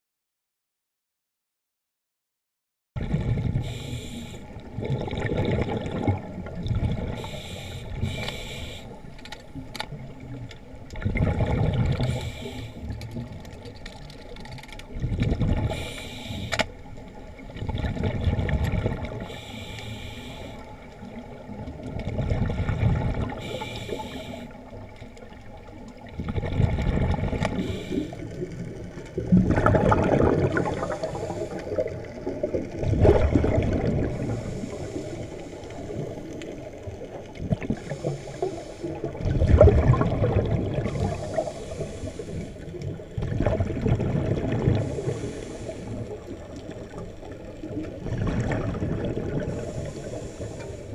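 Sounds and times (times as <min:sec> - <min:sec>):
scuba regulator bubbles underwater: 0:03.0 - 0:50.9.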